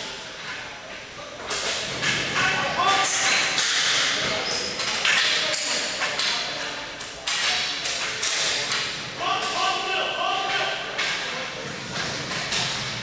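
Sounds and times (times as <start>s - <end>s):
players' voices: 0.4s - 13.0s.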